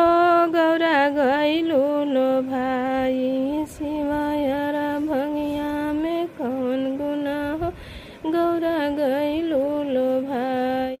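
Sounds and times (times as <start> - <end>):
woman singing folk song: 0.0 - 11.0.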